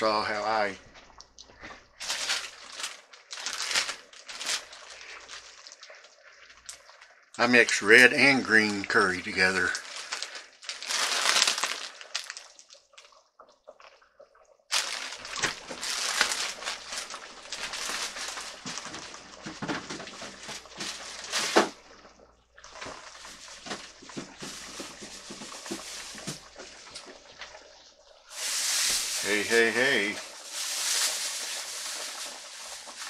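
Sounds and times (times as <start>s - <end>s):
curry bubbling and popping: 0.0s - 33.0s.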